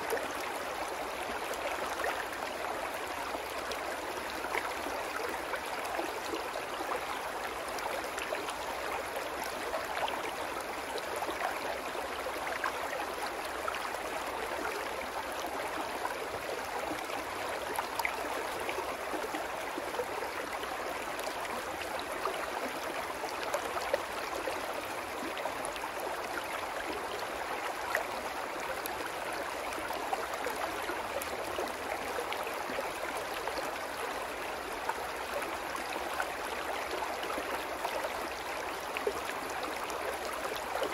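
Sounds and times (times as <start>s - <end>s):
brook babbling over rocks: 0.0s - 40.9s.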